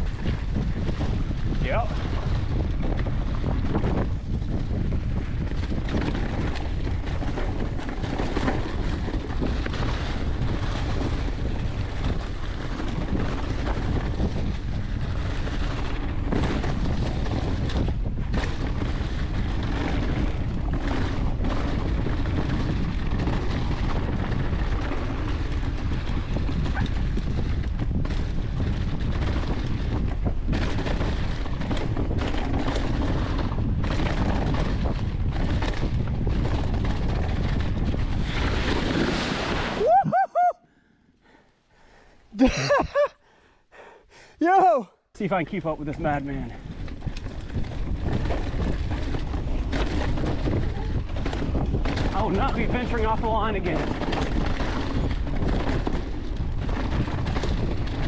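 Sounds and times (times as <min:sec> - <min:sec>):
bike knocks and rattles: 0:00.0 - 0:39.6, 0:45.4 - 0:58.0
wind rushing over microphone: 0:00.0 - 0:40.6, 0:44.3 - 0:58.0.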